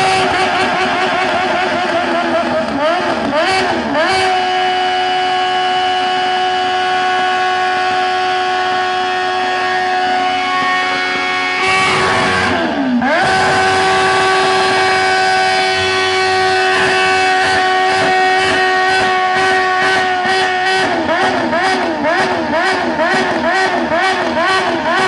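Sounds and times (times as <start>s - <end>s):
motorcycle engine revving high: 0.0s - 25.0s.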